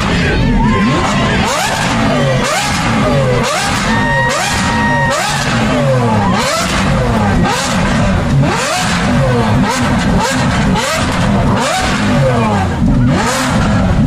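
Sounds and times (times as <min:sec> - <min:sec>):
sports car engine revving: 0:00.0 - 0:14.0.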